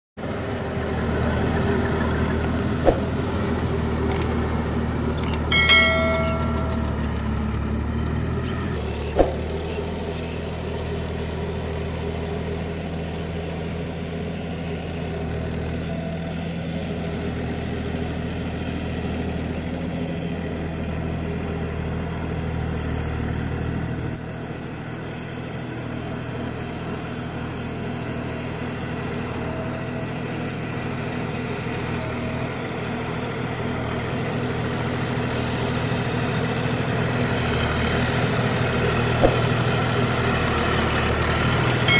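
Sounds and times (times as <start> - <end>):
tractor diesel engine running: 0.2 - 41.9.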